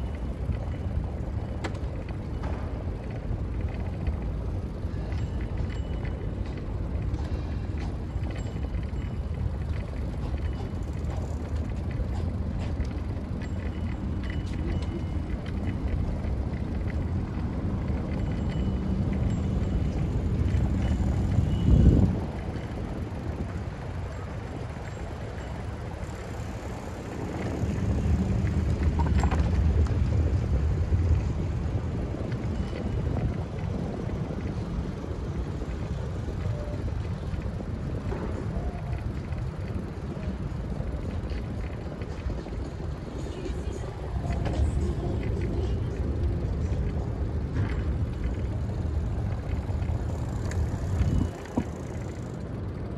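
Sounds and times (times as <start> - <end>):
rolling road noise: 0.0 - 52.9
wind buffeting microphone: 0.0 - 52.9.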